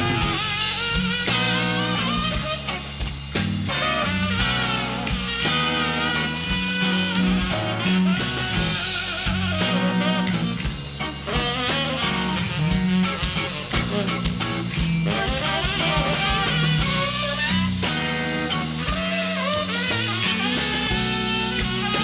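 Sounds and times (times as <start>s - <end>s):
blues band playing: 0.0s - 22.0s
electric guitar: 0.0s - 22.0s.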